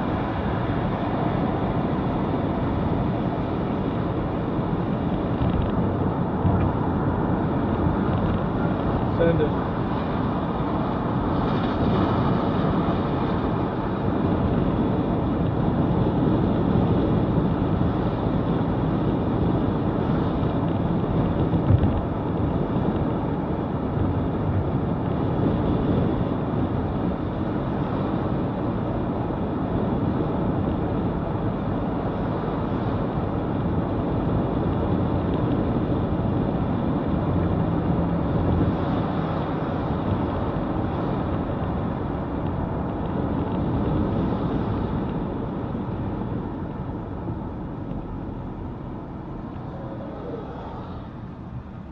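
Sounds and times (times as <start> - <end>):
road and engine noise in vehicle cabin: 0.0 - 51.9.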